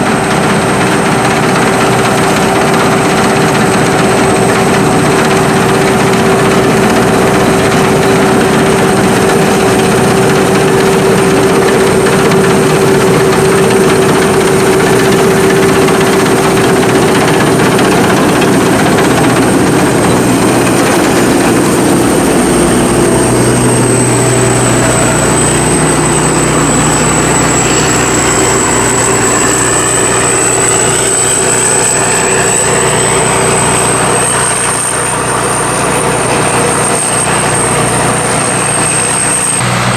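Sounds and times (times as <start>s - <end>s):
combine harvester engine drone: 0.0s - 39.9s
high machinery whine: 0.0s - 39.9s.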